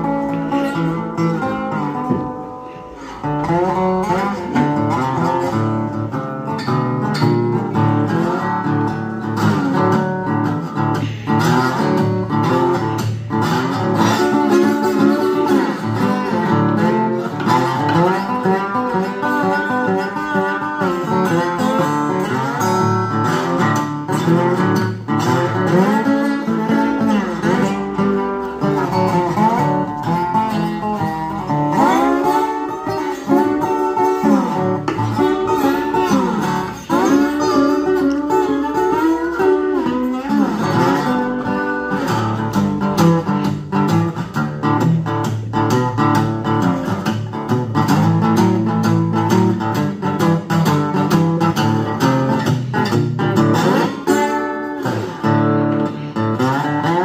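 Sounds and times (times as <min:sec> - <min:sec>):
resonator guitar playing blues: 0:00.0 - 0:57.0.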